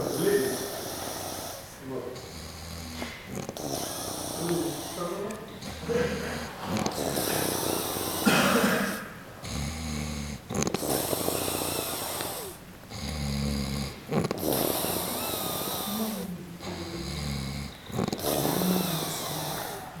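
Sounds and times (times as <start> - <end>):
long noisy breaths: 0.0 - 20.0
man snoring: 0.0 - 20.0.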